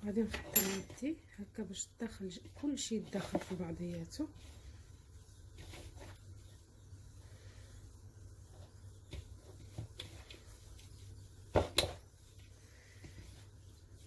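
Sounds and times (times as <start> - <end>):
hand mixing dry blend in bowl: 1.0 - 14.0.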